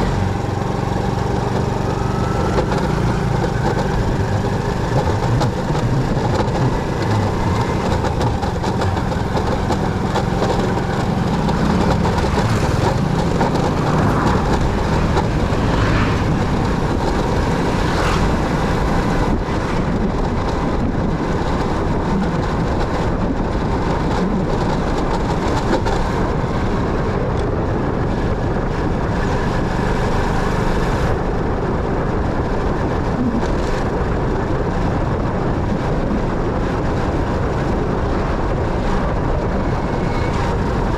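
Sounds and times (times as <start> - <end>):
motorcycle engine: 0.0 - 40.9
road noise: 0.0 - 40.9.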